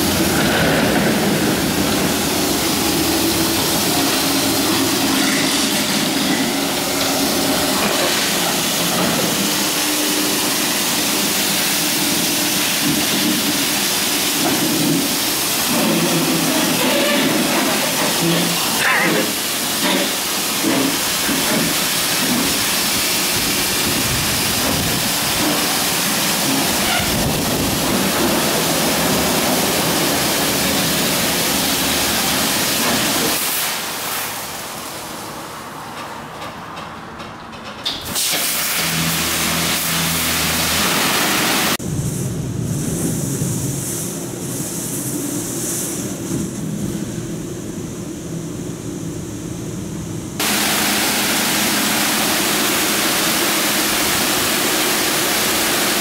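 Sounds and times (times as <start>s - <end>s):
high-pressure water jets spraying: 0.0s - 35.6s, 38.0s - 41.8s, 50.4s - 56.0s.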